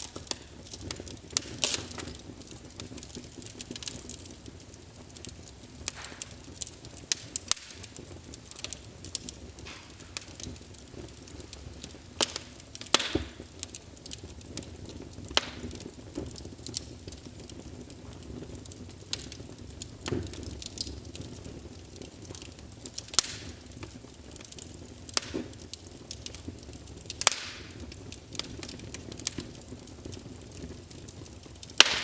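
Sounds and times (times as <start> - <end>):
fire crackling and popping: 0.0 - 32.0
wood fire hiss and rumble: 0.0 - 32.0.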